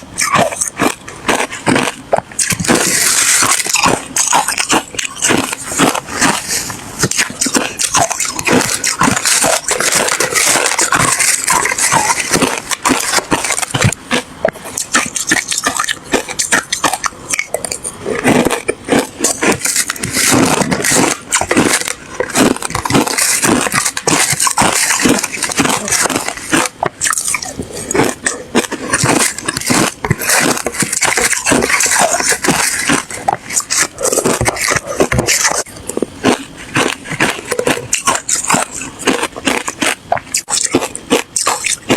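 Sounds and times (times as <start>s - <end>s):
ice crunching being chewed: 0.0s - 41.9s.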